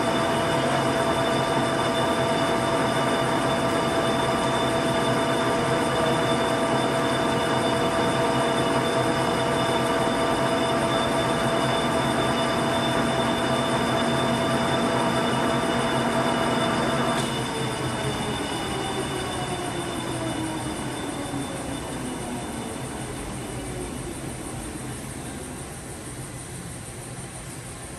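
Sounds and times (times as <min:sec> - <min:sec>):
lathe running with whining tones: 0:00.0 - 0:26.3.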